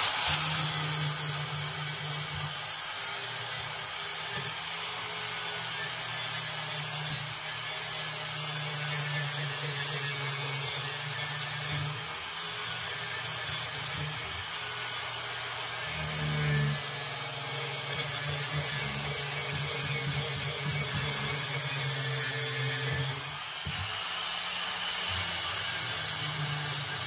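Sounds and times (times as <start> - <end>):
angle grinder grinding metal: 0.0 - 27.0.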